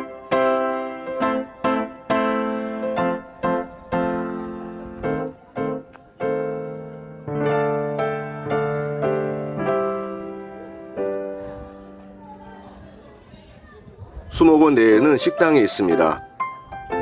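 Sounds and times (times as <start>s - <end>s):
piano playing slow chords: 0.0s - 12.8s, 14.8s - 17.0s.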